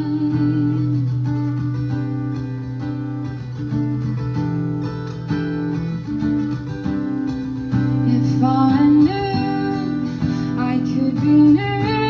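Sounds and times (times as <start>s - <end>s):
guitar picked and strummed: 0.0s - 12.0s.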